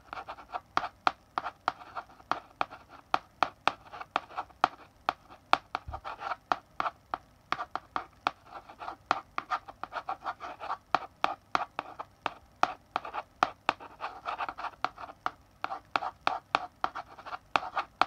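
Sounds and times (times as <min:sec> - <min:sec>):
chalk scratching on blackboard: 0:00.0 - 0:18.0
chalk tapping on blackboard: 0:00.0 - 0:18.0.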